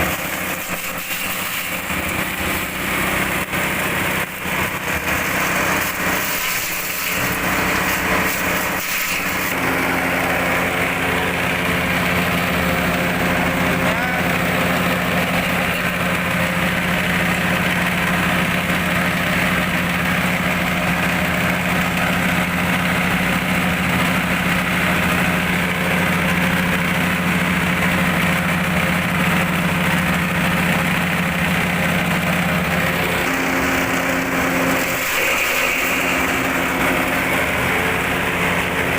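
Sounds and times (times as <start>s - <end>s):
forage chopper engine running: 0.0s - 38.9s.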